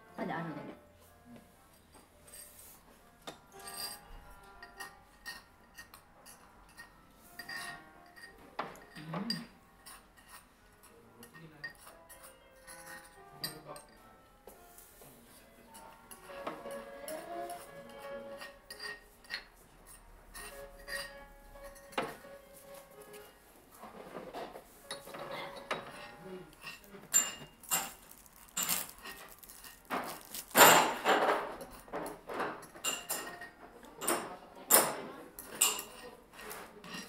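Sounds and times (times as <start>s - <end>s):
faint background music: 0.0s - 37.0s
ceramic dishes clinking: 3.2s - 14.1s, 15.7s - 22.4s, 23.9s - 37.0s.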